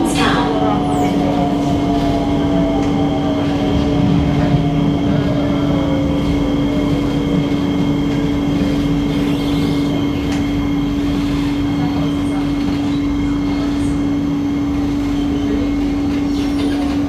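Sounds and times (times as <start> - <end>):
train motor whine: 0.0 - 17.0
train running hum: 0.0 - 17.0.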